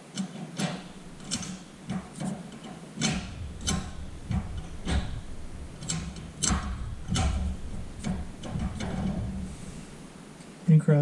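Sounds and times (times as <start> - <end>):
gear shifter clicks and knocks: 0.0 - 10.3
low rumble: 0.8 - 10.4.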